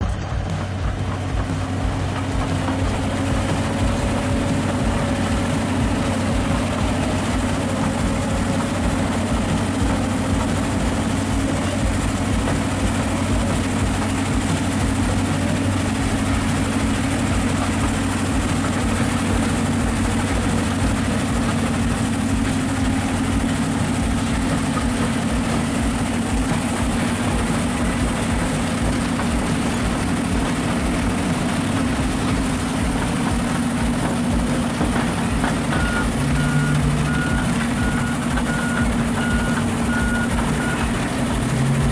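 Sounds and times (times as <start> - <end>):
bulldozer diesel engine humming: 0.0 - 41.9.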